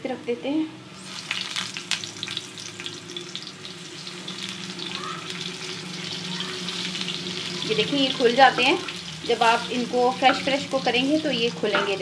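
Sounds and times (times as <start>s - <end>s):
low steady hum: 0.0s - 12.0s
food sizzling in hot oil: 0.9s - 12.0s.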